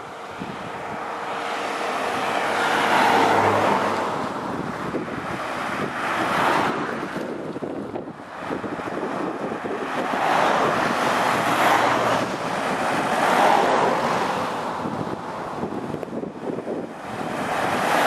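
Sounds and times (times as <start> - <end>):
vehicle road noise: 0.0 - 18.0
wind rushing over microphone: 0.0 - 18.0.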